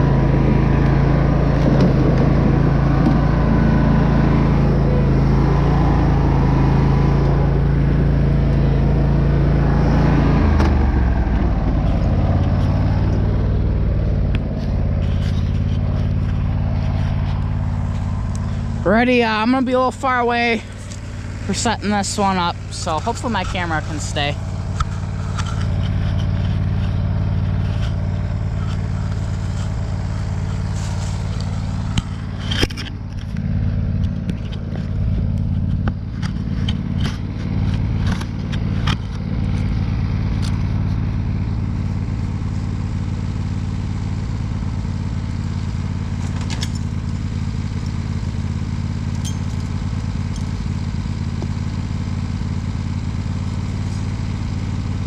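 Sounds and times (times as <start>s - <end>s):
small petrol engine idling: 0.0s - 55.0s.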